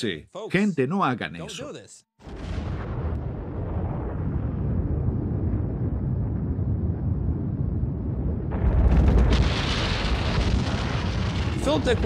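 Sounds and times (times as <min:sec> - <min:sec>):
deep explosion rumble: 0:02.2 - 0:12.0.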